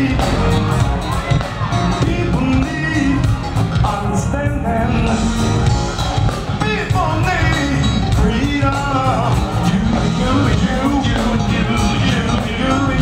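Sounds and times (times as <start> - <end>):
live soul band playing: 0.0 - 13.0
man singing lead: 0.0 - 13.0.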